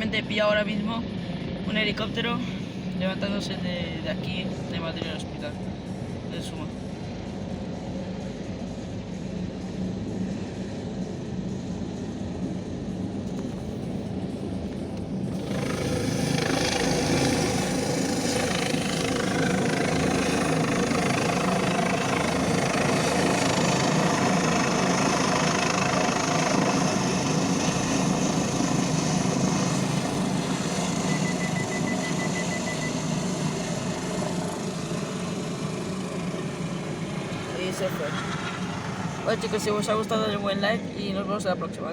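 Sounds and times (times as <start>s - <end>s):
helicopter rotor and turbine: 0.0s - 41.9s.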